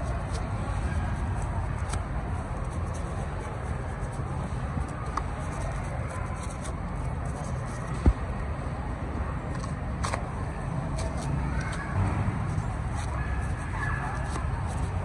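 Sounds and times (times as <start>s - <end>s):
knife cutting soft fruit: 0.0s - 8.0s, 10.9s - 15.0s.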